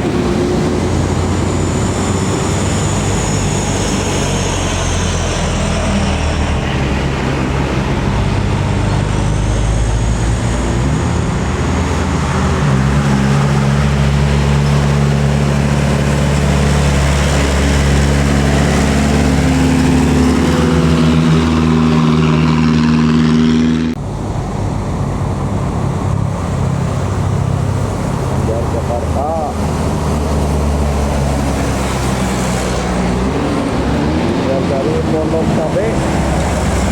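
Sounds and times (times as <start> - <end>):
diesel engine running: 0.0 - 36.9
road noise: 0.0 - 36.9.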